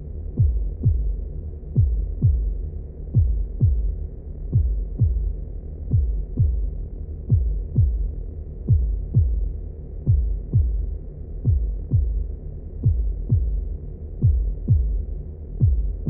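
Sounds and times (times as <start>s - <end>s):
low hum: 0.0s - 16.0s
heartbeat thumps: 0.2s - 16.0s.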